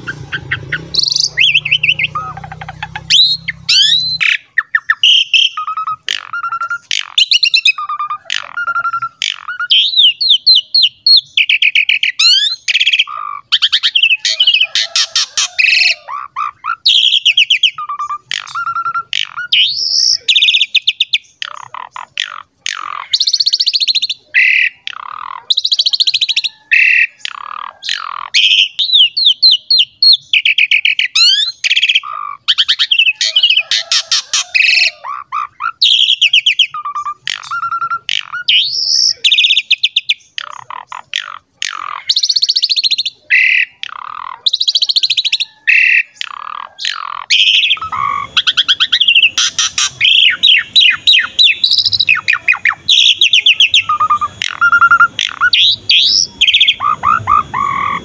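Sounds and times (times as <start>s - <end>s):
starling singing: 0.0s - 58.0s.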